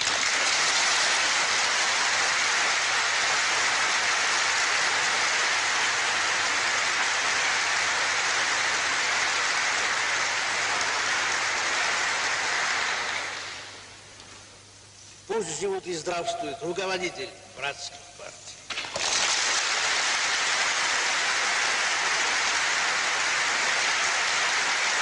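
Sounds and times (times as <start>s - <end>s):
audience applauding: 0.0s - 13.9s, 18.7s - 25.0s.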